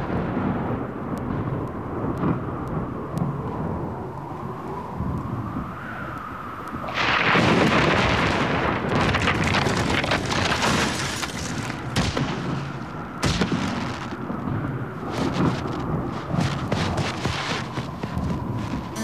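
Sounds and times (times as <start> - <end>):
rumbling crackling rush: 0.0 - 19.0.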